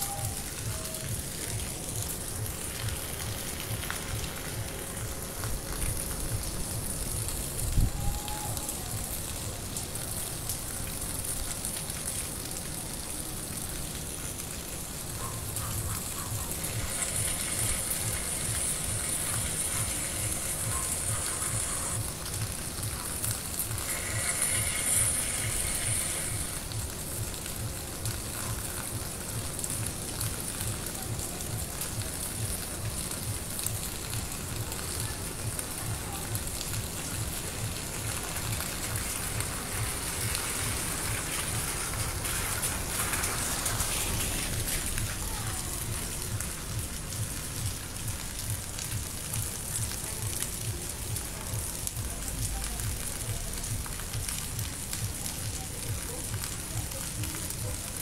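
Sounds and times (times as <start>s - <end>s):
rain on rooftops and street: 0.0s - 58.0s.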